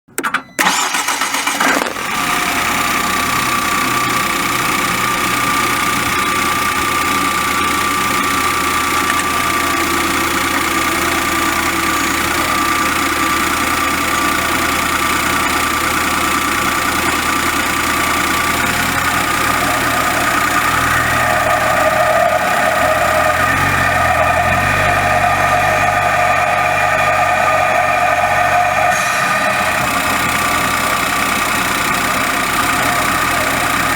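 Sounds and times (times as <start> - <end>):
car engine starting and idling: 0.1 - 33.9
clutch rubbing noise: 1.4 - 33.9.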